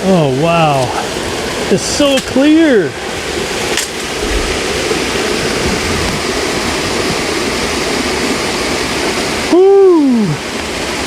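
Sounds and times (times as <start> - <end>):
waterfall pouring into pool: 0.0 - 11.0.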